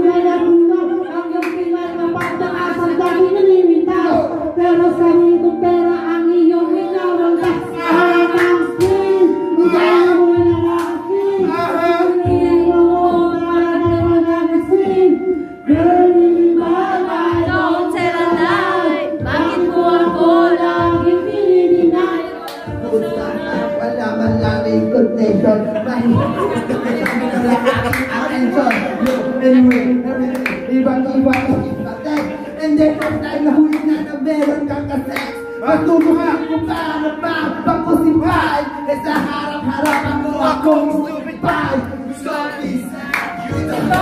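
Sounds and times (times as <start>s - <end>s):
backing track music: 0.0s - 44.0s
people singing into microphones: 0.0s - 44.0s.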